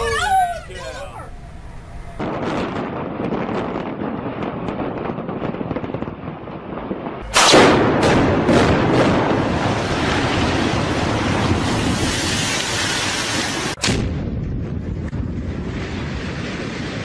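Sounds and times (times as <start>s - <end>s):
loud explosive blast: 1.3s - 17.0s.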